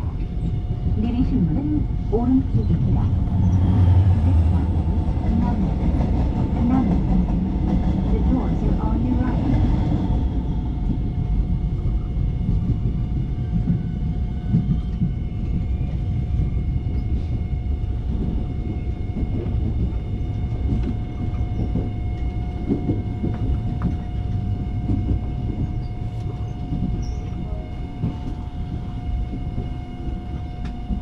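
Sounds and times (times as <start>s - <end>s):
train wheels rumbling on rails: 0.0s - 31.0s
train whine: 0.0s - 31.0s.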